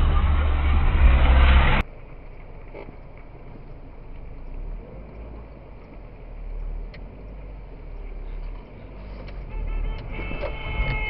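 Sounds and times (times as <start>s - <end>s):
traffic rumble: 0.0s - 11.0s
faint clicks: 1.9s - 11.0s.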